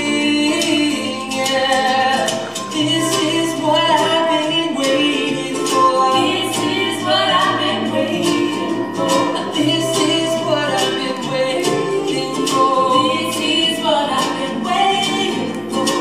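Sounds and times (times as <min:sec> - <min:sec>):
strummed acoustic guitar: 0:00.0 - 0:16.0
voices singing in harmony: 0:00.0 - 0:16.0.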